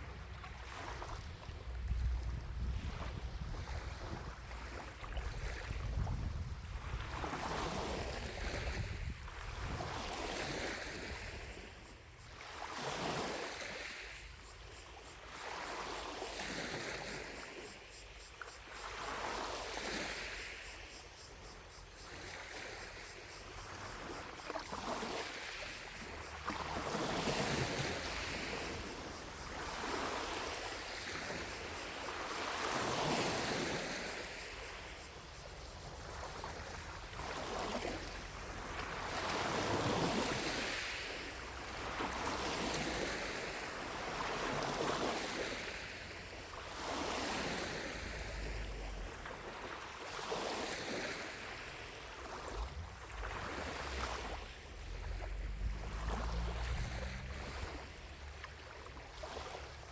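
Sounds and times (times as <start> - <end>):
lake waves lapping on shore: 0.0 - 59.9.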